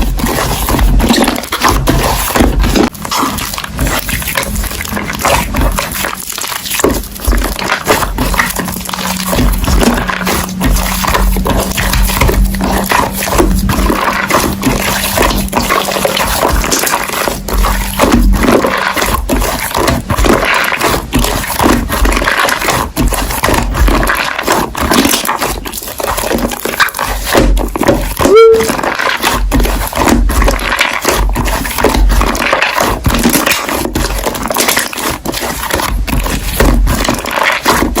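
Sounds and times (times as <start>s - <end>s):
slime squelching and crackling: 0.0s - 38.0s.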